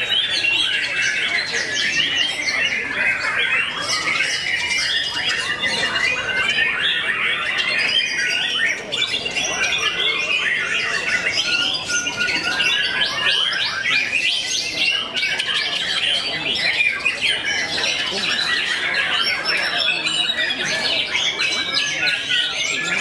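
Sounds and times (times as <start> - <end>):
birds singing loud whistles: 0.0 - 23.0.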